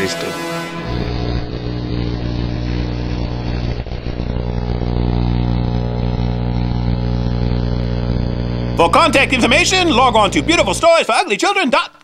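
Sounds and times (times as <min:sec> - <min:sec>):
low engine-like drone: 0:00.2 - 0:10.8.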